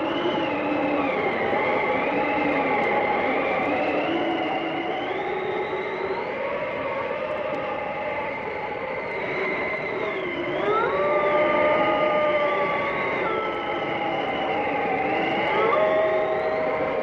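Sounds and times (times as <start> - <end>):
blizzard wind howling and whistling: 0.0 - 17.0.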